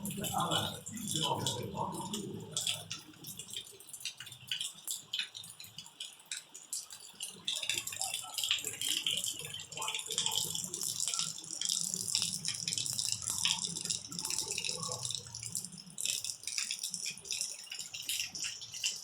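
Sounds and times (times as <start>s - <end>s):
heavy rain falling: 0.0s - 5.8s, 6.8s - 19.0s.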